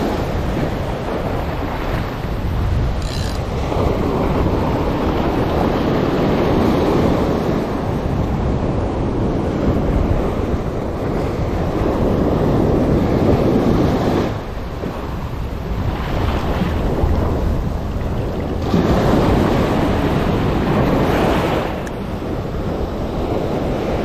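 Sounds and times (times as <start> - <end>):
ocean surf washing: 0.0 - 24.0
wind buffeting microphone: 0.0 - 24.0.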